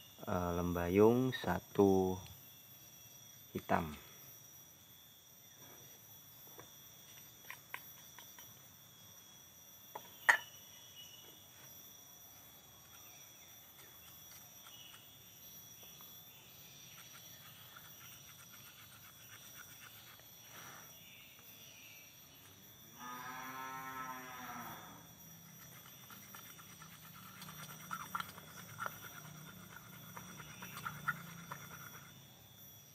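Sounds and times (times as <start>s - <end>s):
high insect drone: 0.0s - 32.9s.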